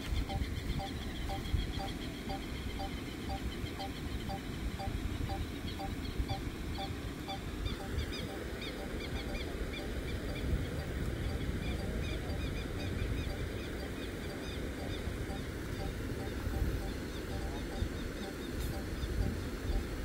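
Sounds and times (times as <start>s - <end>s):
two-note bird call: 0.0s - 19.9s
birds chirping: 0.0s - 20.0s
steady rushing noise: 0.0s - 20.0s.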